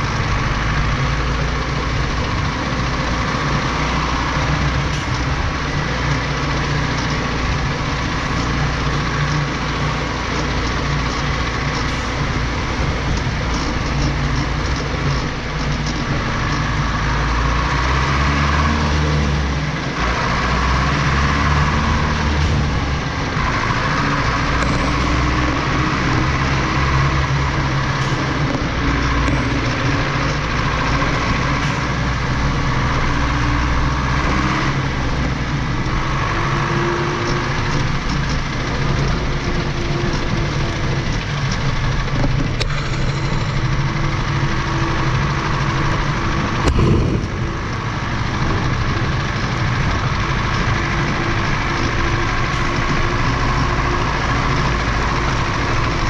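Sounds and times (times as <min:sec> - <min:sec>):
tractor diesel engine running: 0:00.0 - 0:56.0
tyres rolling through mud: 0:00.0 - 0:56.0.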